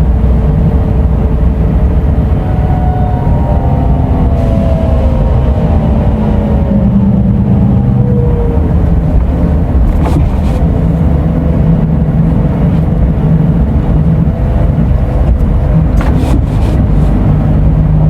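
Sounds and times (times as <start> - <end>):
coach diesel engine droning: 0.0 - 18.0.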